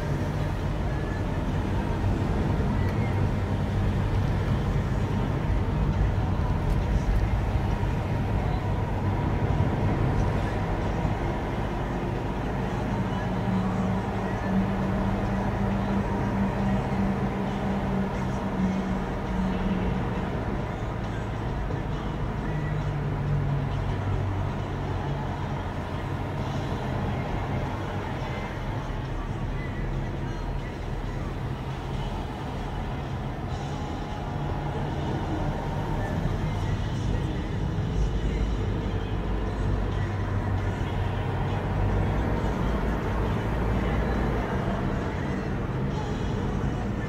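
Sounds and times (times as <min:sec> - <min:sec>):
car engine and tyre rumble: 0:00.0 - 0:47.0
road noise: 0:00.0 - 0:47.0.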